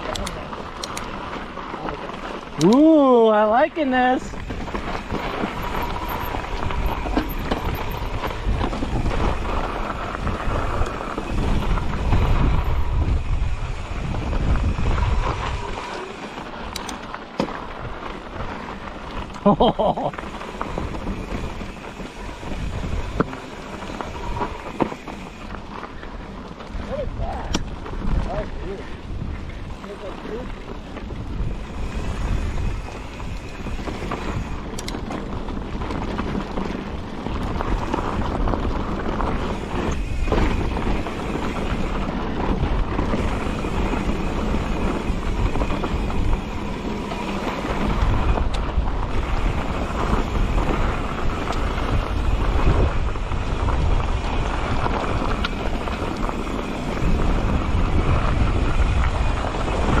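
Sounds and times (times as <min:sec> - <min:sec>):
wind buffeting microphone: 0:04.0 - 1:00.0.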